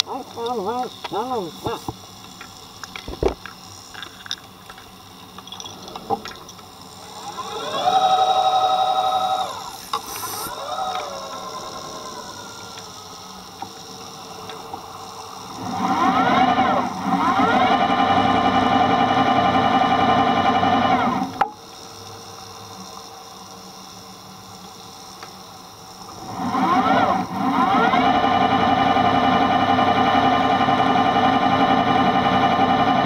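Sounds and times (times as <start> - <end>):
underwater scooter motor whining: 0.0 - 21.7, 25.8 - 33.0.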